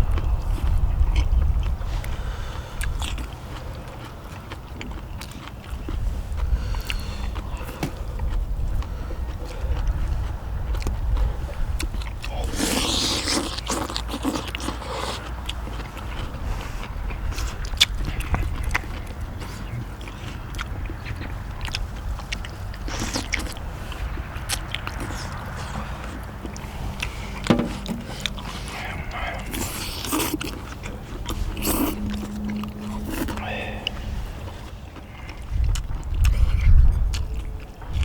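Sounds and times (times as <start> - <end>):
steady low rumble: 0.0 - 14.6, 15.2 - 38.0
people chewing food: 0.0 - 38.0.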